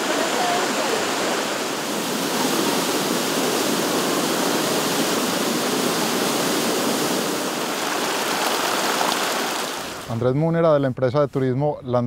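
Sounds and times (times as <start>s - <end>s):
water rushing over boulders: 0.0s - 10.1s.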